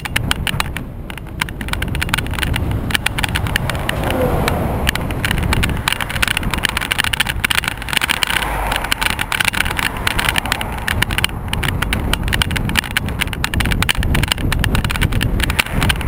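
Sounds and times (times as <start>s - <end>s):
bicycle riding over rough path: 0.0s - 16.0s
camera rattling and knocking: 0.0s - 16.0s
low rumble of road traffic: 0.0s - 16.0s.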